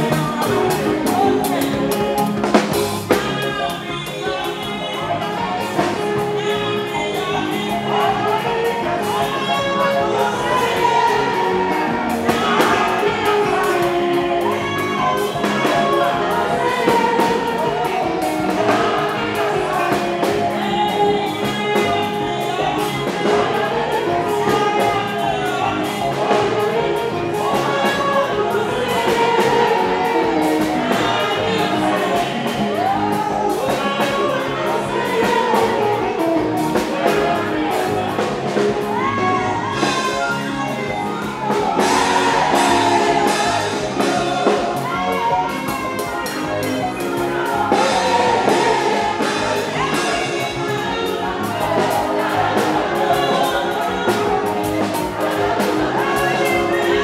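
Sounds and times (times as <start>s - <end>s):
band playing a steady beat: 0.0s - 57.0s
woman singing into a microphone: 3.1s - 57.0s.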